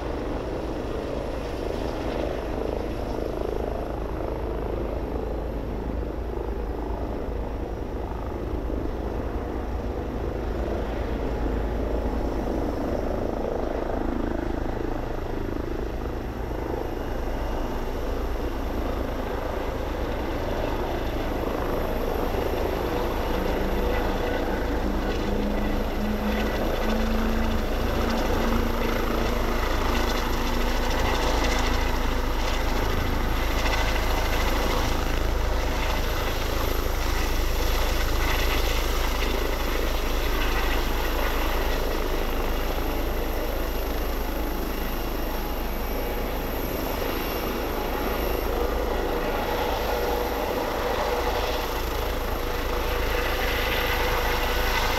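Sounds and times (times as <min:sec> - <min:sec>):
helicopter hovering: 0:00.0 - 0:54.9.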